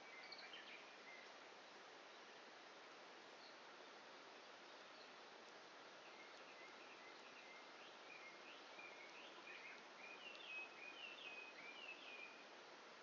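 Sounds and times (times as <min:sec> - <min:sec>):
songbird chirping: 0:00.0 - 0:12.8
faint steady hiss: 0:00.0 - 0:13.0.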